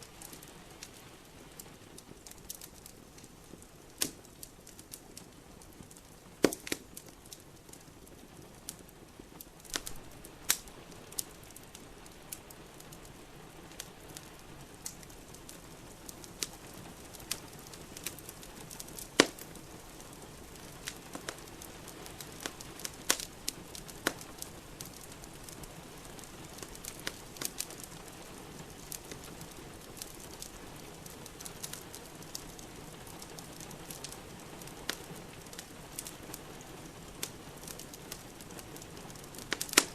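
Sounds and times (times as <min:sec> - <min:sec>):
sharp pops of fire: 0:00.0 - 0:08.8, 0:09.6 - 0:13.0, 0:13.7 - 0:39.9
wood fire crackling: 0:00.0 - 0:39.9.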